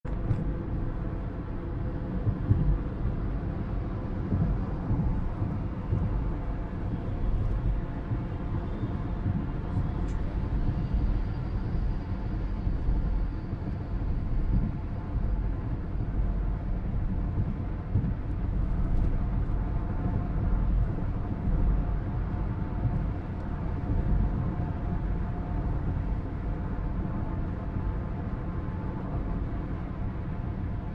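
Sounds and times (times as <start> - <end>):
car engine and tyre rumble: 0.0 - 30.9.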